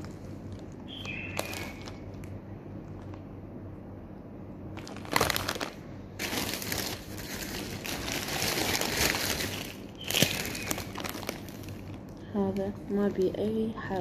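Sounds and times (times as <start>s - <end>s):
plastic packets crinkling: 0.0s - 3.3s, 4.7s - 14.0s.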